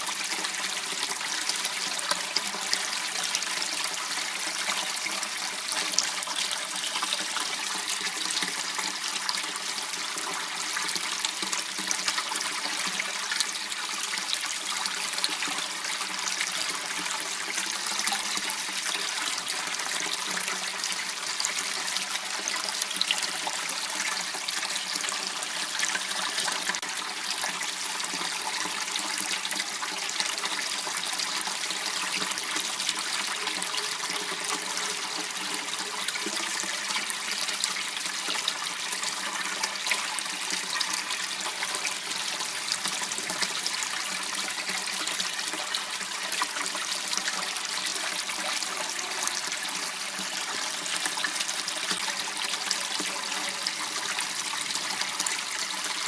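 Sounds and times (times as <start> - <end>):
water trickling in a waterway: 0.0 - 56.0.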